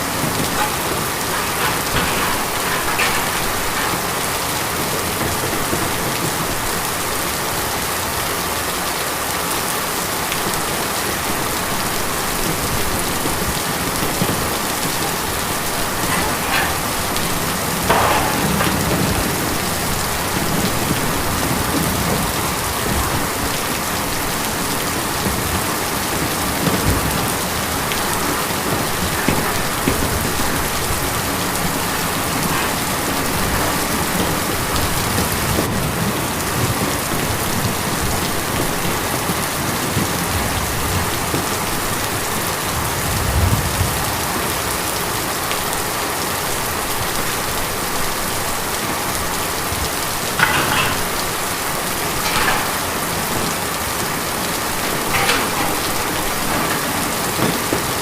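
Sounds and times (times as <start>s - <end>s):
rain on tin: 0.0s - 58.0s.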